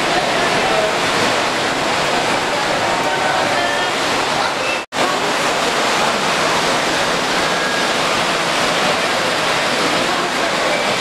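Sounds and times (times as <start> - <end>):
busy exhibition hall noise: 0.0 - 11.0.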